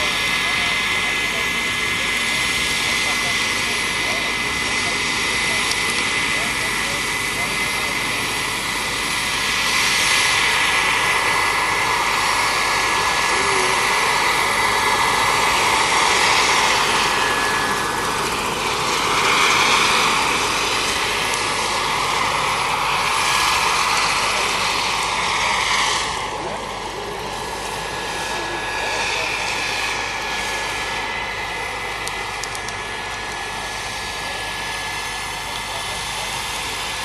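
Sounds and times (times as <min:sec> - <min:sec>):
model helicopter turbine whine: 0:00.0 - 0:37.0
rotor blades rushing: 0:00.0 - 0:37.0.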